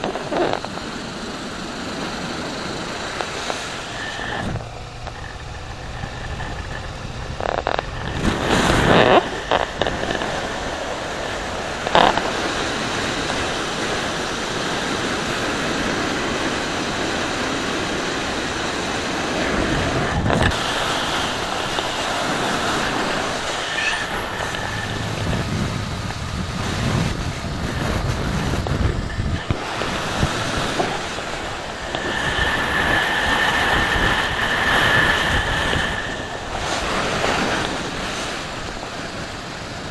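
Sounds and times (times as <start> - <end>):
motorcycle engine running: 0.0 - 39.9
wind rushing over camera: 0.0 - 39.9.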